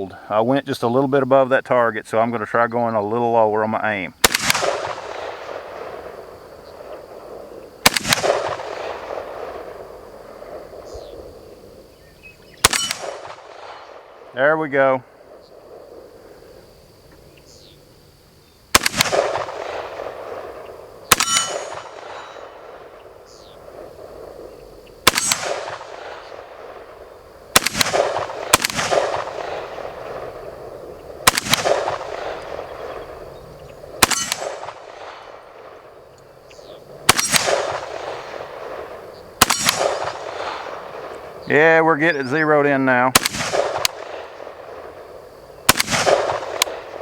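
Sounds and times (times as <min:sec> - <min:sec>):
rifle single shots with echo: 0:04.2 - 0:11.9, 0:12.5 - 0:16.6, 0:18.7 - 0:47.0.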